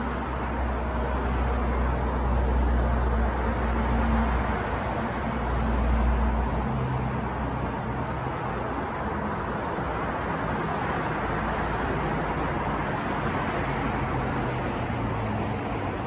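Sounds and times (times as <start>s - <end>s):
passing vehicles: 0.0s - 16.0s.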